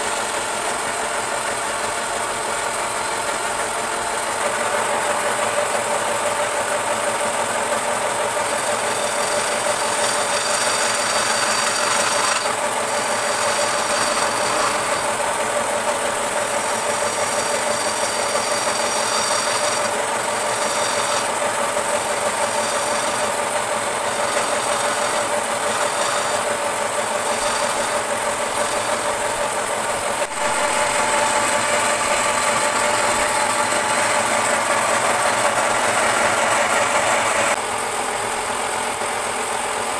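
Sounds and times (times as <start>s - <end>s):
chisel cutting spinning wood: 0.0s - 39.9s
wood lathe motor rattle and hum: 0.0s - 39.9s.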